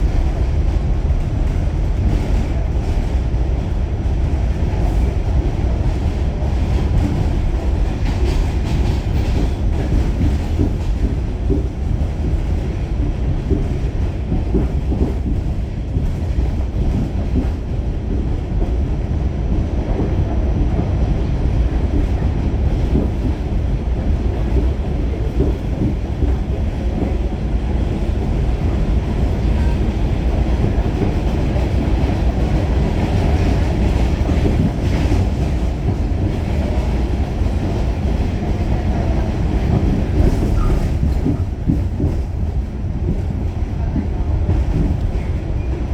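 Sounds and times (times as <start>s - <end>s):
subway wheels rumbling on rails: 0.0s - 45.9s.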